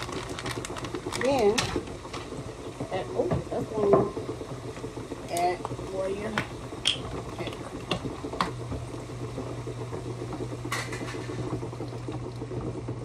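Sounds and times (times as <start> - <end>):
sauce simmering and bubbling: 0.0 - 13.0
steady low hum: 0.0 - 13.0.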